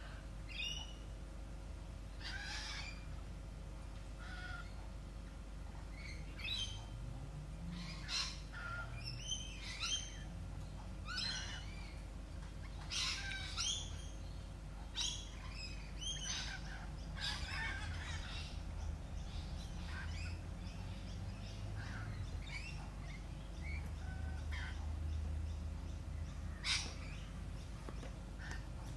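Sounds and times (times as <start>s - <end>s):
birds chirping and squawking: 0.0s - 1.1s, 2.1s - 7.0s, 7.6s - 28.9s
low steady hum: 0.0s - 28.9s.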